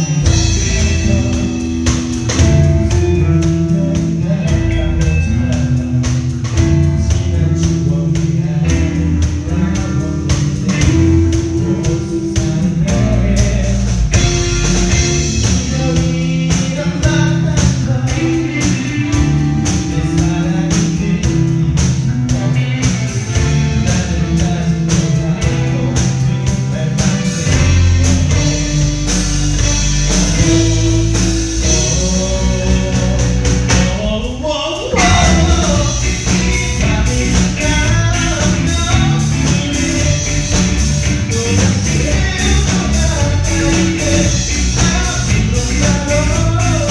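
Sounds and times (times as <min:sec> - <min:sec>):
person singing: 0:00.0 - 0:46.9
rock band playing: 0:00.0 - 0:46.9
steady drum beat: 0:00.0 - 0:46.9.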